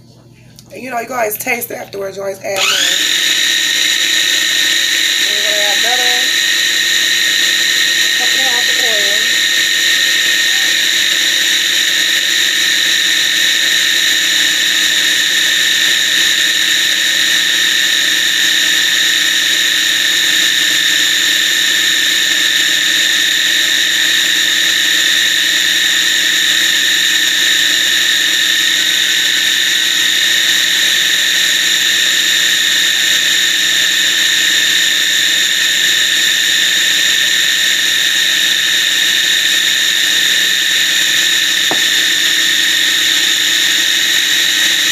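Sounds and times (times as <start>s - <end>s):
food processor motor whining: 2.6s - 44.9s.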